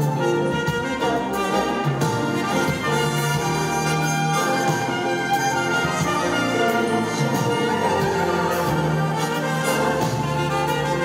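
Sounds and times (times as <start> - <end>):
solo trumpet melody: 0.0 - 11.0
strings bowing held notes: 0.0 - 11.0.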